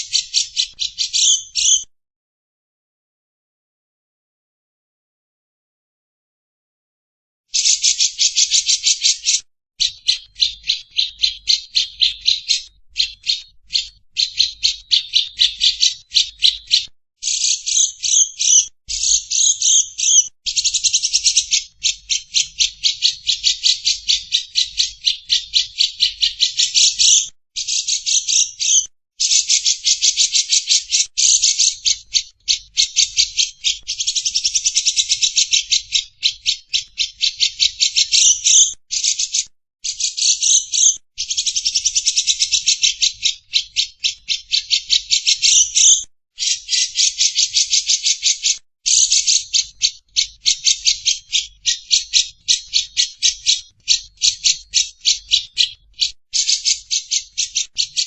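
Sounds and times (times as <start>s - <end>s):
lovebird chattering: 0.0s - 1.8s, 7.6s - 58.0s.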